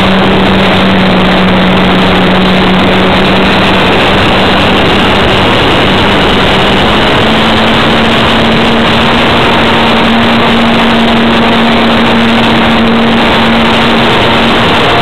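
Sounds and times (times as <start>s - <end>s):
model airplane motor hum: 0.0s - 15.0s
wind rush over microphone: 0.0s - 15.0s.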